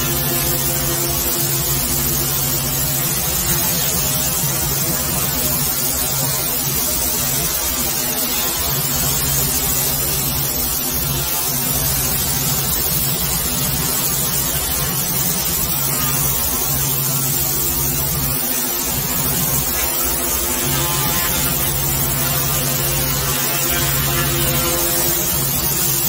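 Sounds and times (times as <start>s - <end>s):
pressure washer motor hum: 0.0s - 26.0s
water jet hissing on concrete: 0.0s - 26.0s.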